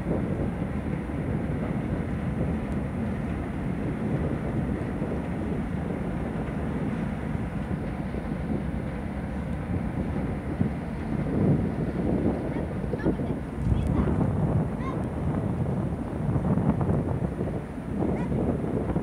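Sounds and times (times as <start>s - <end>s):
ship engine rumble: 0.0s - 19.0s.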